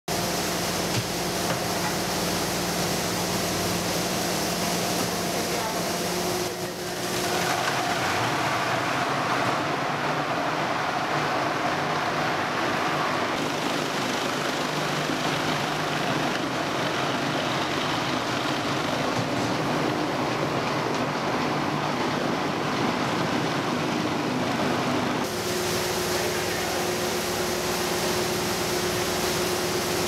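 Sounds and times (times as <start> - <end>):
bowl cutter machine running: 0.1 - 30.0.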